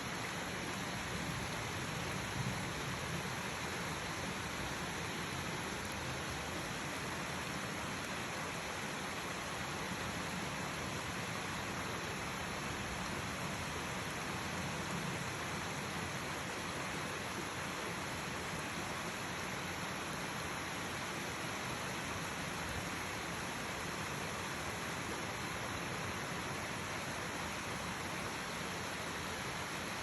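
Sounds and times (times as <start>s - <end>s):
stream rushing and splashing: 0.0s - 30.0s.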